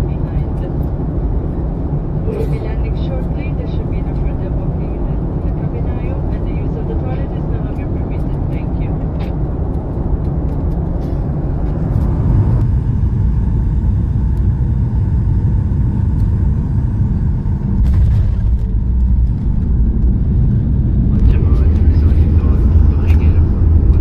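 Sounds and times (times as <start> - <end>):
jet engines and airflow rushing: 0.0 - 24.0
wheels rumbling on runway: 0.0 - 24.0.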